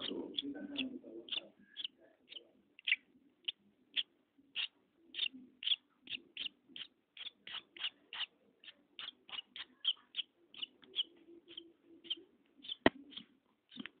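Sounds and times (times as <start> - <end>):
bird chick chirping: 0.0 - 14.0.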